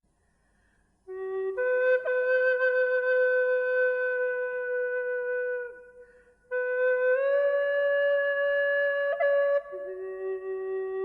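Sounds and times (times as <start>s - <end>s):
slow flute-like music: 0.6s - 11.0s.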